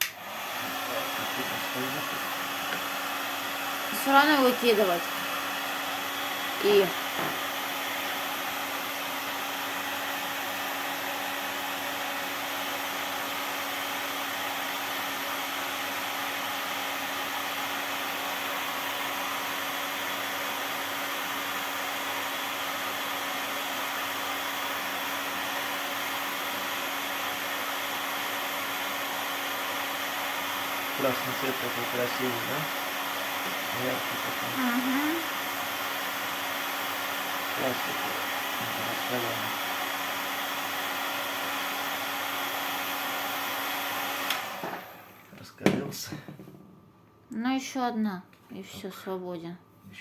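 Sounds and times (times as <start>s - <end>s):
heat gun blowing: 0.0s - 45.9s.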